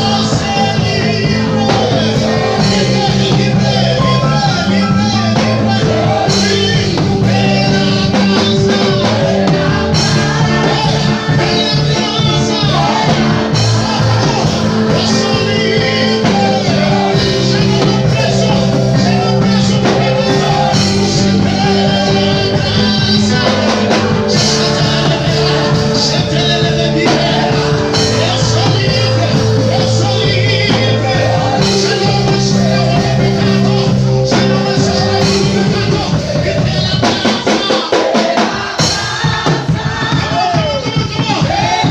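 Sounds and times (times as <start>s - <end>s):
rock music with singing: 0.0s - 41.9s.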